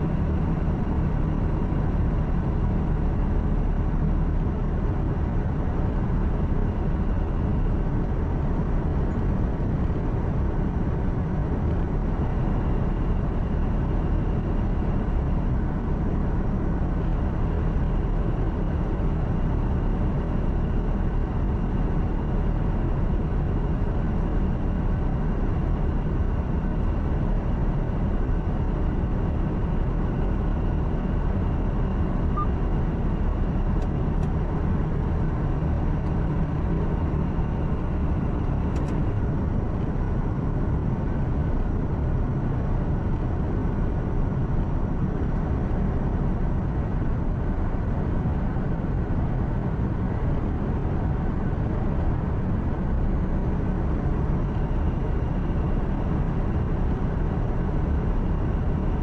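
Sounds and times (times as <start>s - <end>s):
truck engine and tyres rumbling: 0.0s - 58.1s.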